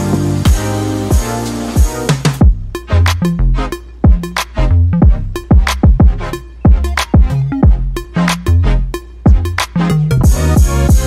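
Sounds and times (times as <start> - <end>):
beat with deep kick drums: 0.0 - 11.0.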